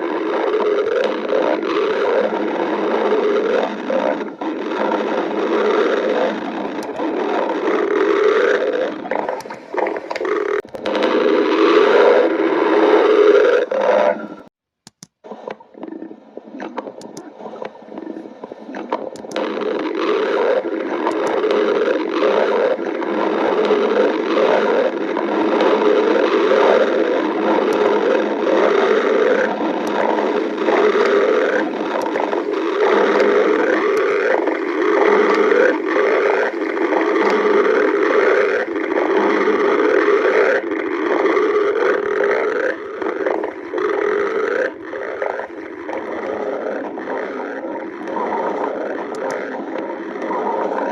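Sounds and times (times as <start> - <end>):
stomach growling: 0.0 - 50.9.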